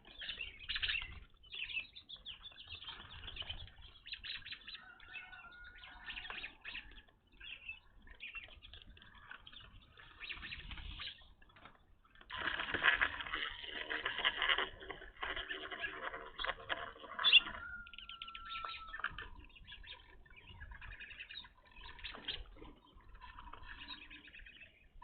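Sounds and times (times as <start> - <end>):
birds chirping: 0.0 - 25.0
wings fluttering: 2.0 - 24.5.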